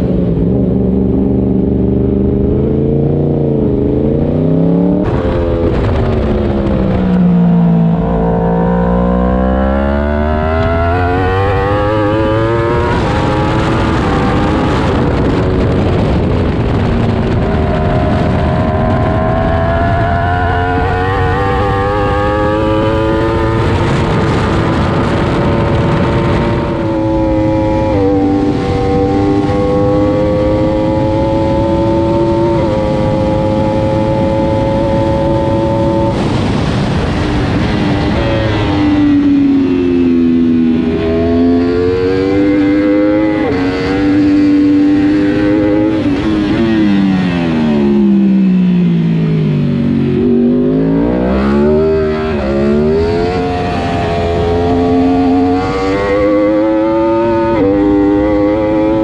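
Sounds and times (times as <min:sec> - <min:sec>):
wind rushing: 0:00.0 - 0:08.7, 0:10.4 - 0:59.0
motorcycle engine at racing revs: 0:00.0 - 0:59.0.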